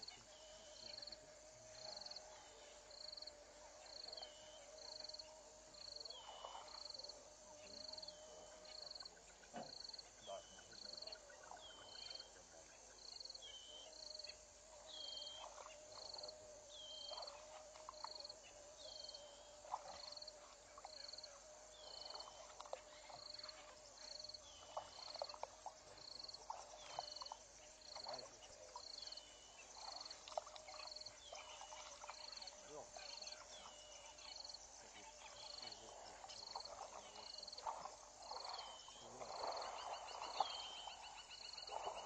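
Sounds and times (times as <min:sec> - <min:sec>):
faint steady drone: 0:00.0 - 0:42.0.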